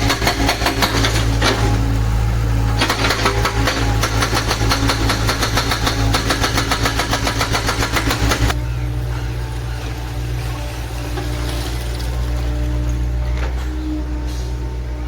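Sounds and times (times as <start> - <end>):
hydraulic breaker hammering: 0.0 - 2.0, 2.6 - 13.9
diesel engine running: 0.0 - 15.0.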